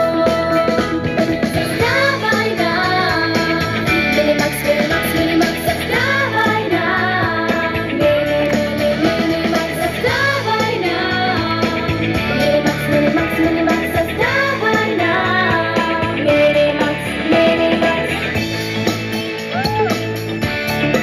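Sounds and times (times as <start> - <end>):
girls singing pop song: 0.0 - 18.6
band backing music: 0.0 - 21.0.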